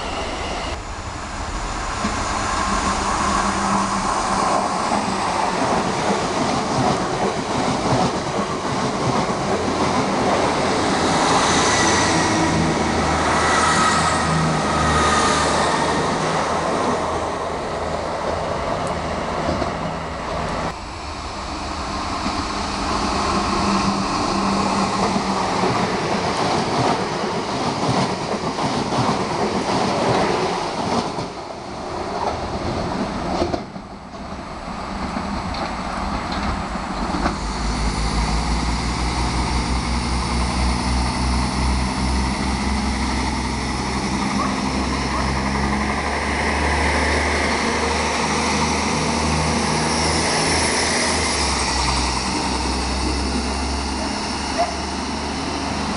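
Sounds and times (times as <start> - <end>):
diesel train engine rumble: 0.0 - 29.5, 31.4 - 55.9
train wheel and rail noise: 0.0 - 55.9.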